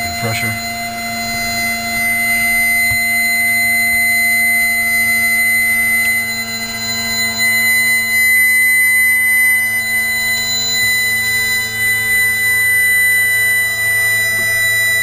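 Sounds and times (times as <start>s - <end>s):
hydraulic pump whining: 0.0s - 15.0s.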